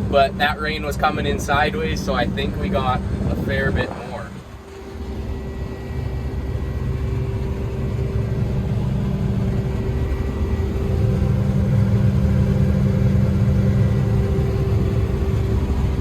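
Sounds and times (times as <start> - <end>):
engine rumble and whine: 0.0 - 16.0.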